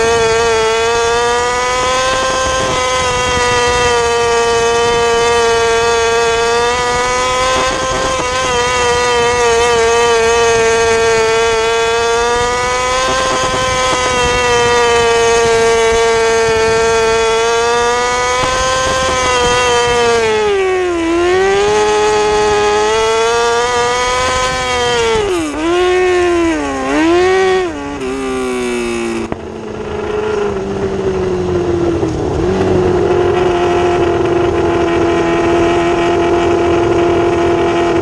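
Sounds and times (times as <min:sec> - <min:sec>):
motorcycle engine at high revs: 0:00.0 - 0:38.0.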